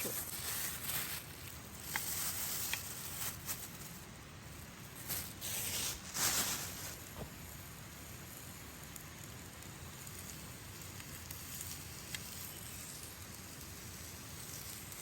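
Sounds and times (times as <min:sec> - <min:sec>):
fire crackling: 0:00.0 - 0:15.0
meat sizzling on a grill: 0:00.0 - 0:15.0.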